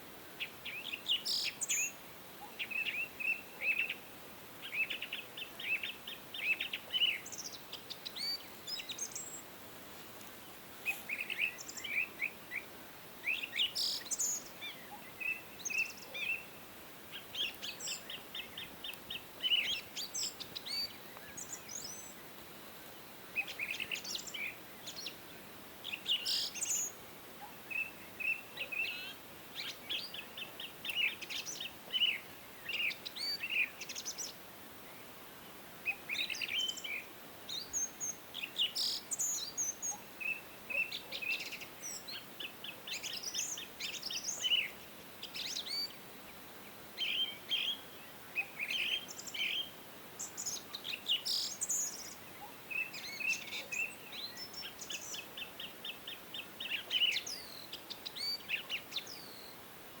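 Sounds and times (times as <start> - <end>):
songbirds singing and chirping: 0.0 - 60.0.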